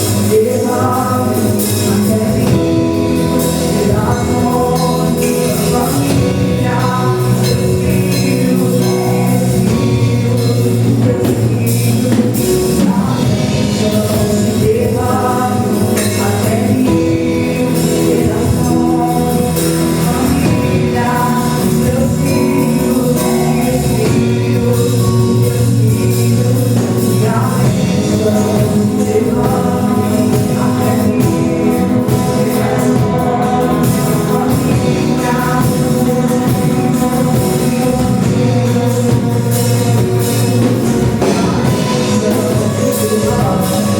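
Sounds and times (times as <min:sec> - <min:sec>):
full band accompaniment: 0:00.0 - 0:43.9
gospel choir singing: 0:00.0 - 0:43.9.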